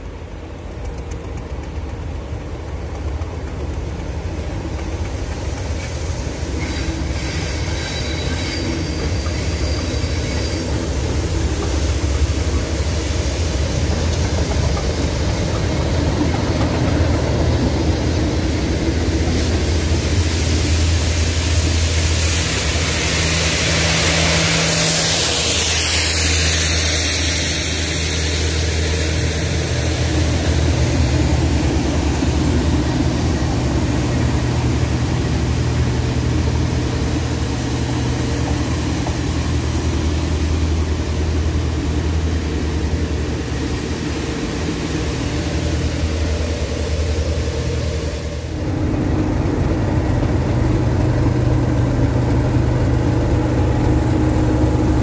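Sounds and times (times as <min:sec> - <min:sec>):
diesel locomotive engine: 0:00.0 - 0:55.0
rushing hiss of train wheels: 0:00.0 - 0:55.0.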